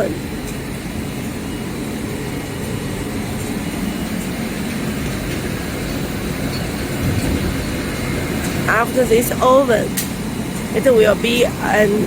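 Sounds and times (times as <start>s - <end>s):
factory machinery humming: 0.0s - 12.0s.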